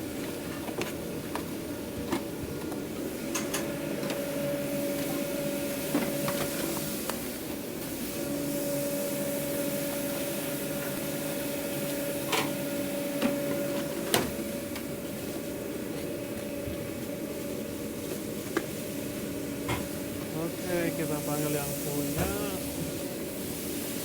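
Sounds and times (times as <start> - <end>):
kitchen equipment humming: 0.0 - 24.0.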